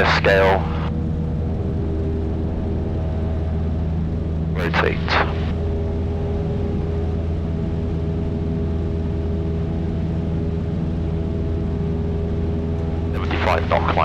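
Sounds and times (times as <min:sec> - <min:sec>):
light aircraft engine droning: 0:00.0 - 0:14.0.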